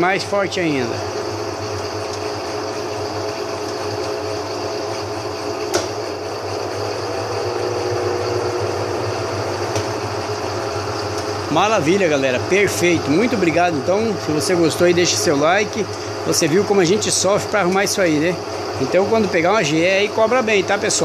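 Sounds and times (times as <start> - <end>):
washing machine spinning: 0.0 - 21.0.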